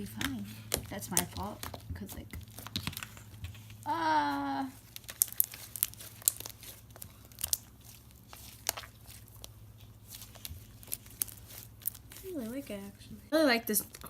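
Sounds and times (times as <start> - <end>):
slime squished by hand: 0.1 - 12.7.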